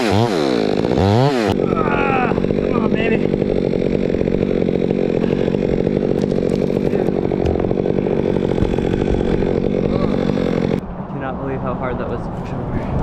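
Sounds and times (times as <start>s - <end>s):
chainsaw cutting wood: 0.0s - 10.8s.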